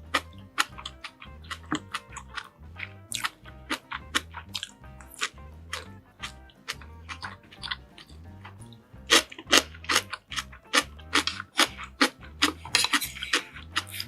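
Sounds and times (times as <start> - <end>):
background music with bass: 0.0 - 14.0
chewing crunches and clicks: 0.0 - 14.0.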